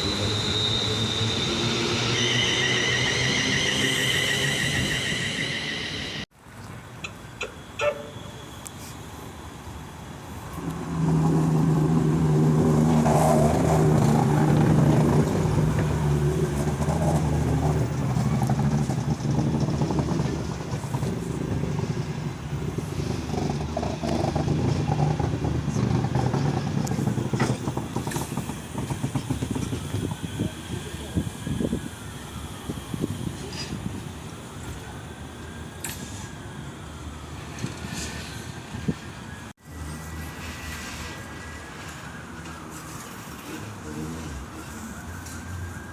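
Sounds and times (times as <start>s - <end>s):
train passing close: 0.0s - 45.9s.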